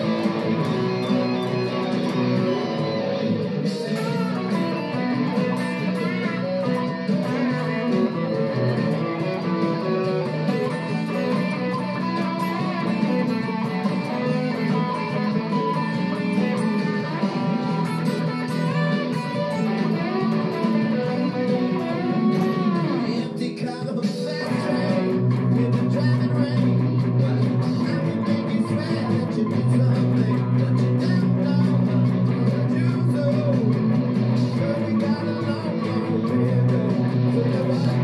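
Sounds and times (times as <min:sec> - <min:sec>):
electric guitar playing: 0:00.0 - 0:38.0.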